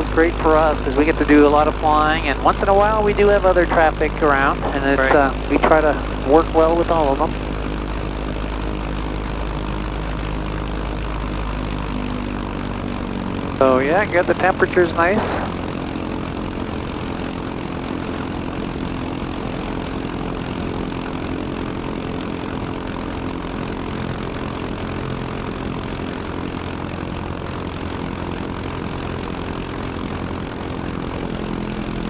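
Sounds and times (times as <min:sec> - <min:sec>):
aircraft engine and propeller idling: 0:00.0 - 0:32.0.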